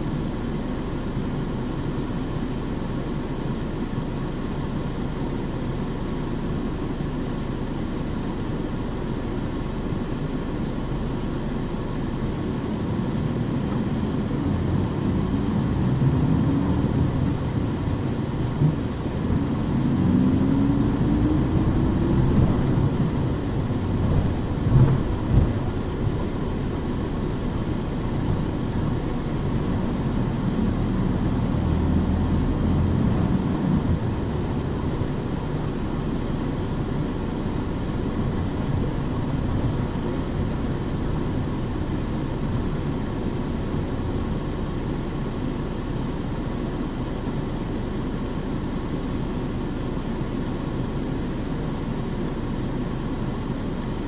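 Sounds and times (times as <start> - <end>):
bus diesel engine rumbling: 0.0 - 54.0
road noise: 0.0 - 54.0.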